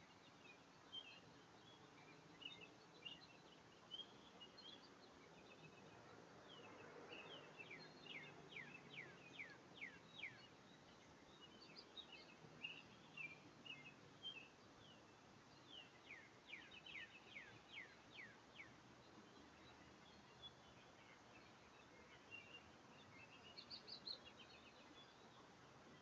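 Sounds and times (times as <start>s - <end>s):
faint bird song: 0.0s - 26.0s.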